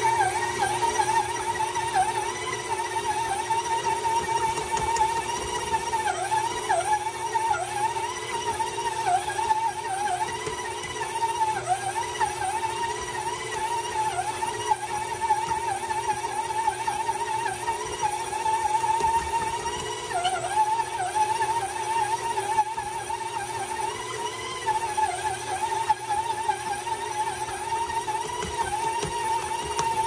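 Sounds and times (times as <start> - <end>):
stand mixer motor whine: 0.0 - 30.0.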